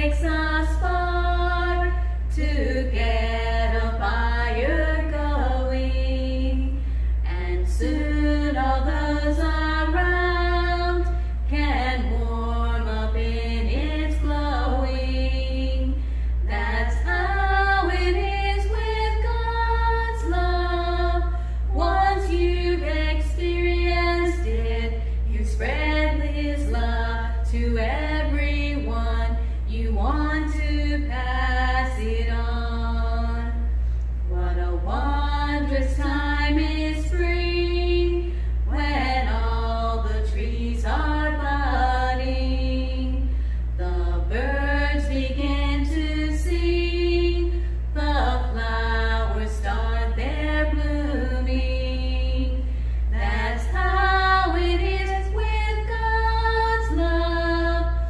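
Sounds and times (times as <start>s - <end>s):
steady low hum: 0.0s - 58.0s
women singing unaccompanied: 0.0s - 58.0s.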